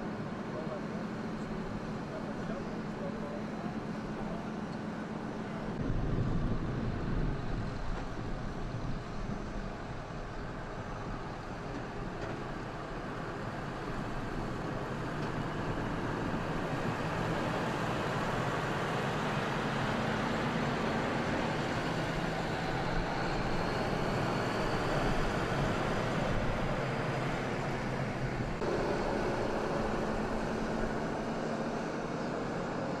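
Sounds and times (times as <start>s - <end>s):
truck engine hum: 0.0s - 33.0s.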